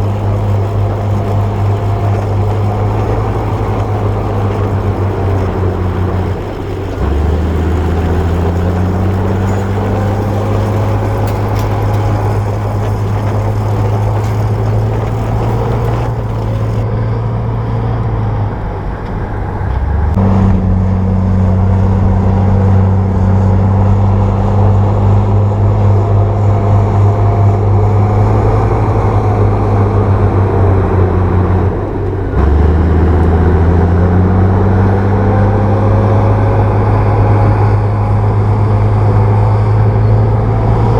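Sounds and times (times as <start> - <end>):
bulldozer diesel engine humming: 0.0 - 40.9.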